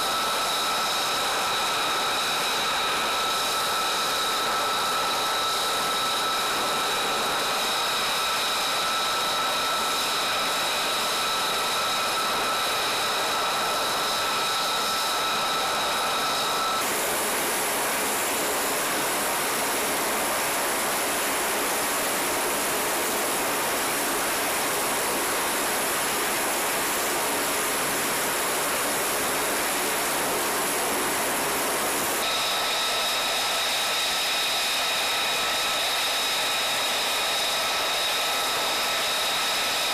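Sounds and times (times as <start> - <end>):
aircraft cargo hold roar: 0.0 - 39.9
jet engine whine: 0.0 - 39.9.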